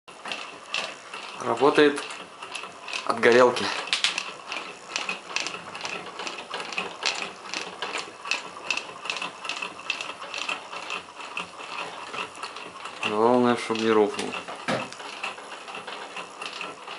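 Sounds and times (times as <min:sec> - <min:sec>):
model engine clicking rhythmically: 0:00.1 - 0:16.9.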